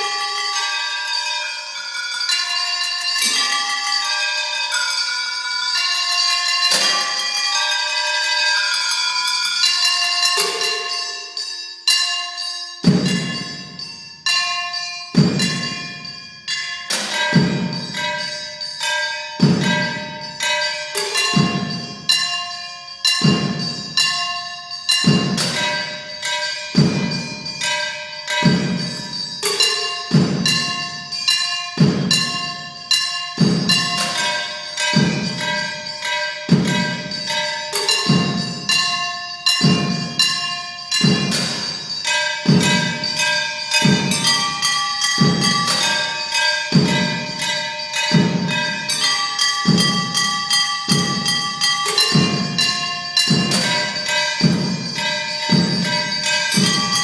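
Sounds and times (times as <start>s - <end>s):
struck metal percussion ringing: 0.0s - 57.0s.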